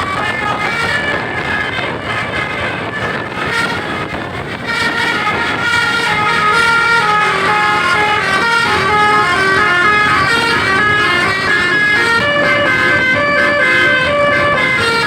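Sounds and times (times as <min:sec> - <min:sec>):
musical air horn melody: 0:00.0 - 0:15.0.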